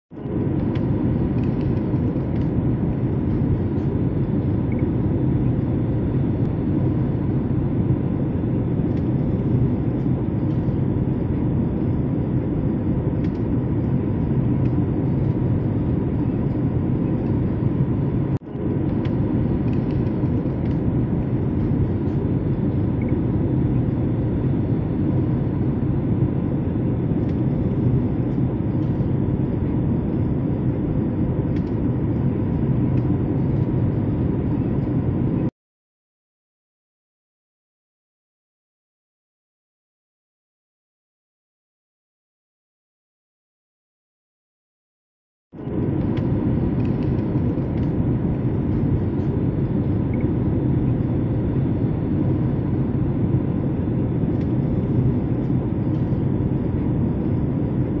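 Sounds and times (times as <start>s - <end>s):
jet engine low rumble: 0.1s - 35.5s, 45.5s - 58.0s
faint steady hum: 0.2s - 35.5s, 45.6s - 58.0s.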